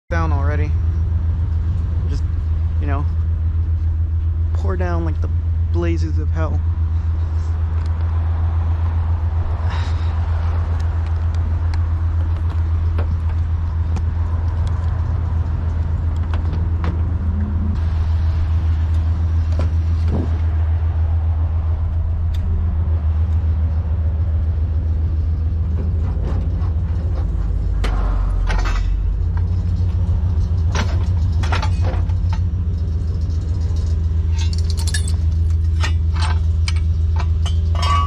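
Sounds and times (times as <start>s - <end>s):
truck engine idling: 0.1s - 38.0s.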